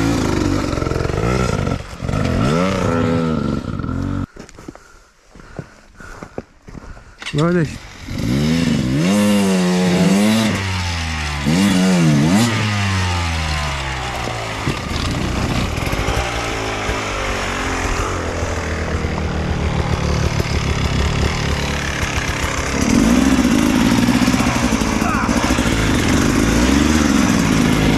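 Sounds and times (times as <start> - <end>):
dirt bike engine revving: 0.0 - 4.3, 7.7 - 27.9.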